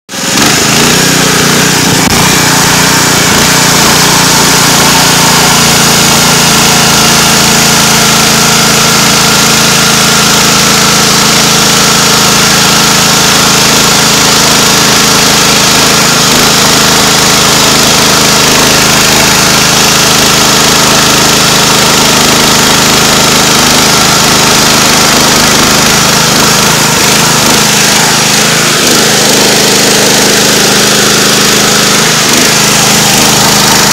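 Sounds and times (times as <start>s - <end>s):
small gas engine running: 0.0s - 33.9s
chainsaw chain cutting log: 0.1s - 33.9s.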